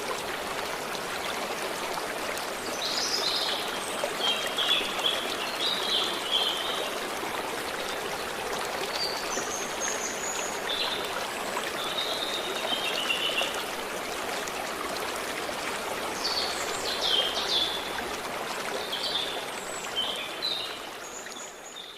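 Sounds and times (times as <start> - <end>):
stream running: 0.0 - 21.9.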